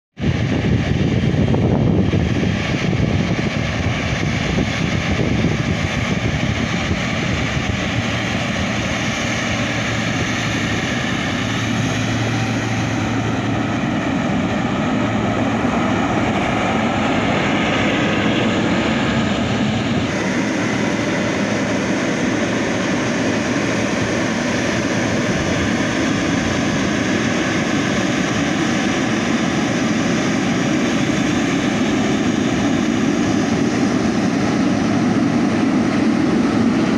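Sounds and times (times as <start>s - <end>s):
jet engines hissing with whine: 0.2s - 36.9s.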